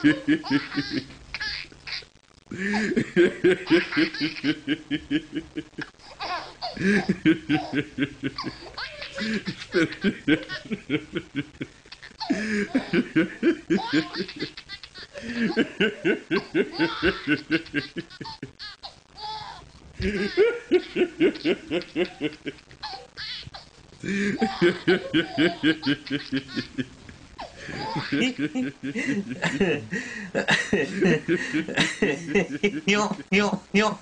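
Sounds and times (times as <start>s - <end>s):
man laughing hard: 0.0s - 1.1s, 2.6s - 5.8s, 6.8s - 18.6s, 20.0s - 22.6s, 24.0s - 26.9s, 27.5s - 33.4s.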